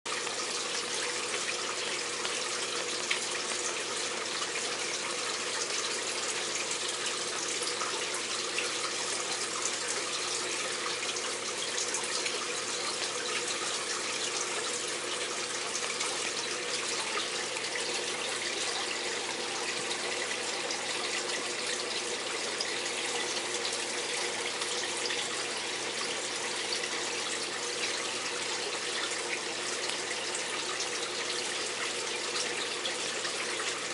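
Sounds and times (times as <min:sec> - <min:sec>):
aquarium filter water rushing: 0:00.1 - 0:33.9.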